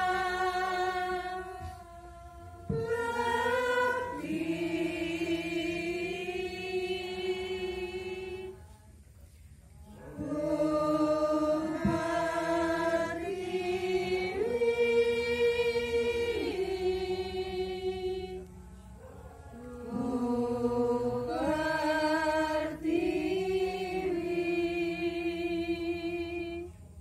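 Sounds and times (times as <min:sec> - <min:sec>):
person singing devotional song: 0:00.0 - 0:08.9, 0:09.9 - 0:27.0.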